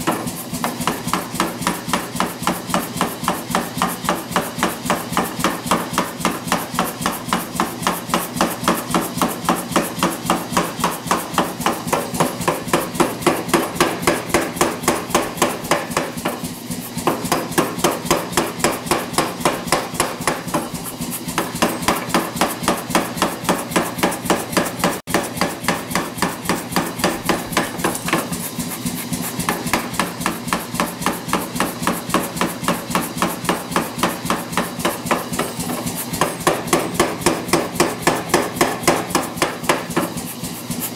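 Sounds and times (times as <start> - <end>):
power hammer pounding hot steel: 0.0 - 40.9.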